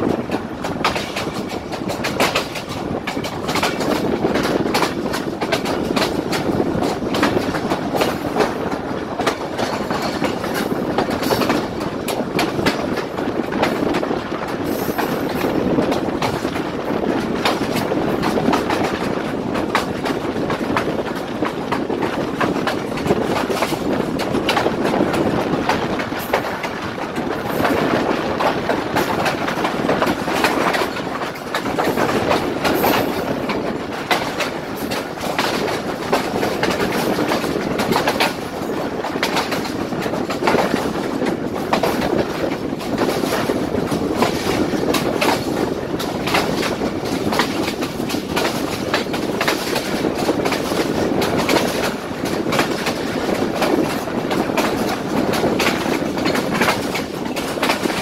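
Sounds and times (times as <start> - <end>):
clickety-clack of wheels: 0.0 - 58.0
train wheels rumbling on track: 0.0 - 58.0.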